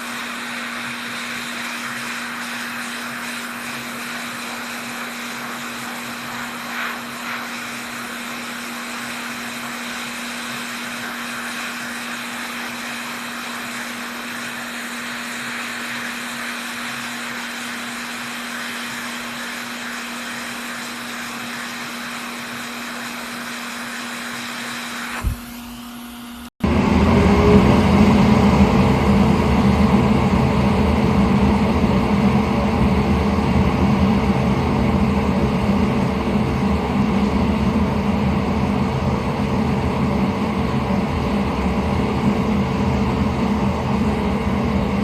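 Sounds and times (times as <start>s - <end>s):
electric blower motor whirring: 0.0s - 45.0s.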